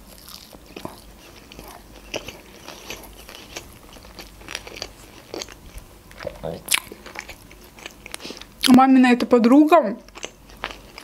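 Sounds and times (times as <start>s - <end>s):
person chewing crunchy food: 0.0s - 8.7s, 10.1s - 11.0s.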